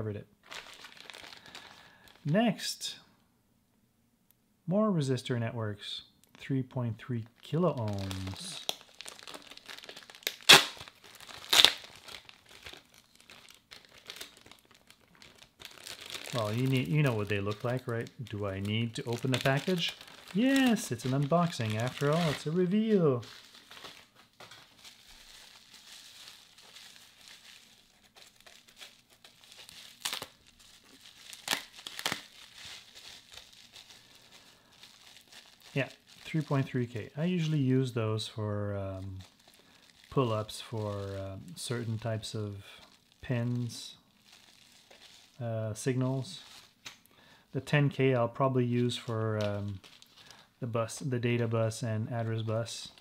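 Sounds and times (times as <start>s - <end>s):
plastic bags crinkling: 0.4s - 2.3s, 7.2s - 47.1s, 48.7s - 51.3s, 52.2s - 53.0s.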